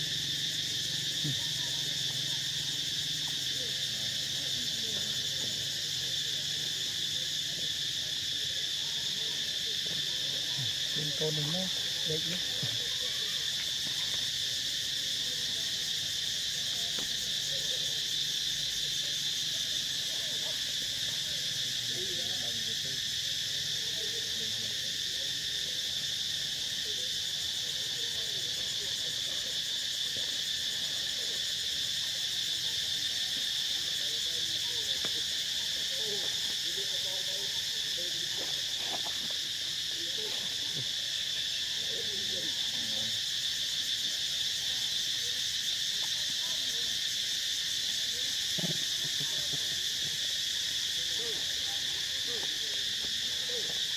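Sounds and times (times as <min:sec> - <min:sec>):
forest insects buzzing: 0:00.0 - 0:53.9.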